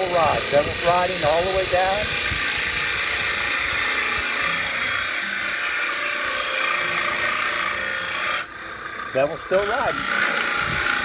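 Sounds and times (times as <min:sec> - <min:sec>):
lathe gouge cutting wood: 0:00.0 - 0:11.0.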